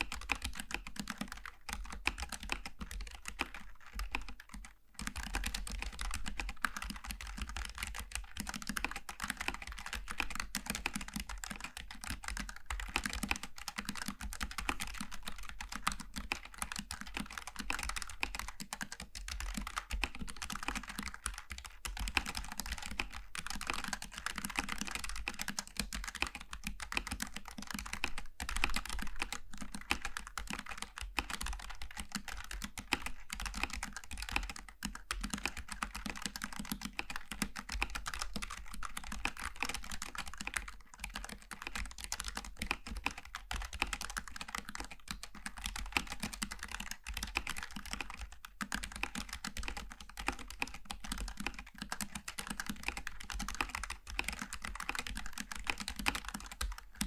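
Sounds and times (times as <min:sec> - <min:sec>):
mechanical keyboard typing: 0:00.0 - 0:57.0.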